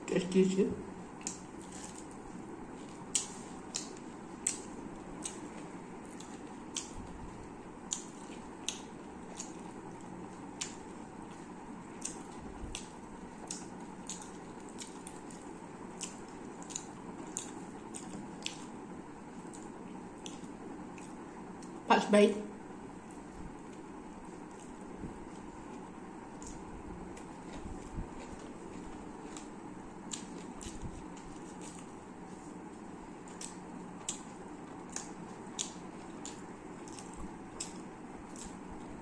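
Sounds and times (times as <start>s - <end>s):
person chewing food: 1.0s - 21.8s, 23.0s - 39.0s.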